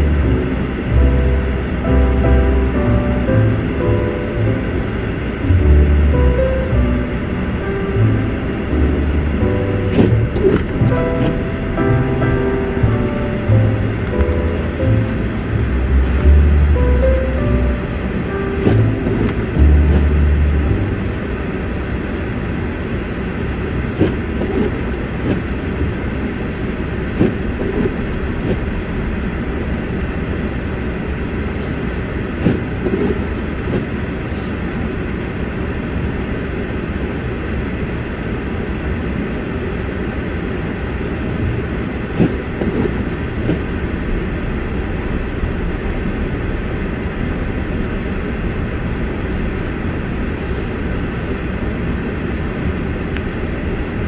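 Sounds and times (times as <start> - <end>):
car engine and tyres on snow: 0.0 - 54.0.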